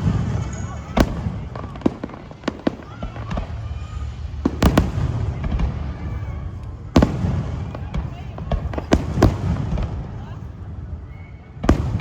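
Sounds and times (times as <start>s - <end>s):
fireworks bangs: 0.0s - 12.0s
low rumble of fireworks: 0.0s - 12.0s.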